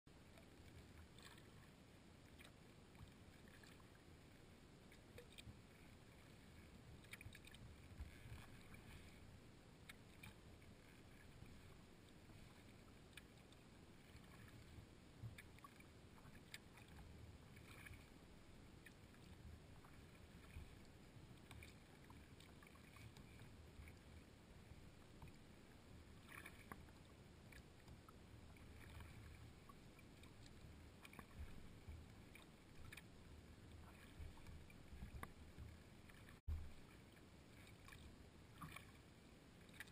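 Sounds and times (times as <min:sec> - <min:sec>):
low steady rumble: 0:00.1 - 0:39.9
water lapping against kayak hull: 0:00.1 - 0:39.9.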